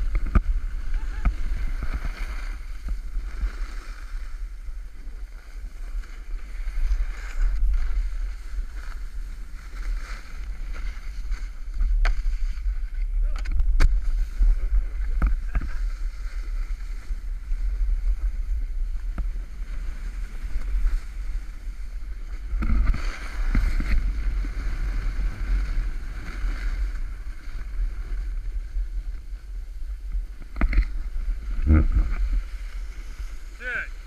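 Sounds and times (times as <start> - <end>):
skis scraping on packed snow: 0.0 - 34.0.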